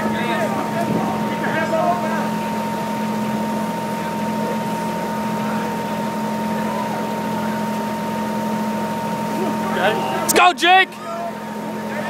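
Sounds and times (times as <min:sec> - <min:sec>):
faint voices: 0:00.0 - 0:12.0
machine drone with low hum: 0:00.0 - 0:12.0.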